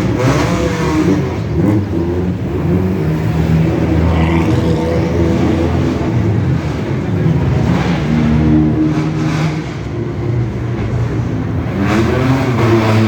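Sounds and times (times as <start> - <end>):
sports car engines revving: 0.0 - 13.0.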